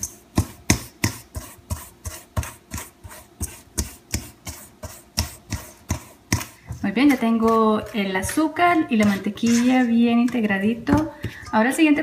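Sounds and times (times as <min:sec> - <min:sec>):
fork scraping metal bowl: 0:01.1 - 0:11.5.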